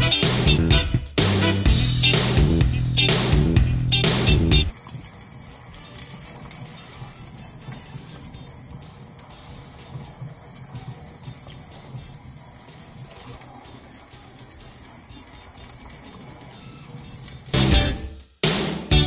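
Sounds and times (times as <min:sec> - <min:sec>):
sizzling hiss with crackles: 0:01.8 - 0:18.4.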